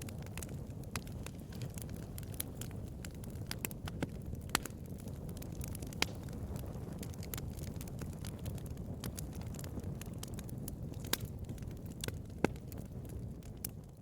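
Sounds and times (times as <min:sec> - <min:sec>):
low rush of flame: 0:00.0 - 0:14.0
wood crackles and pops: 0:00.0 - 0:14.0.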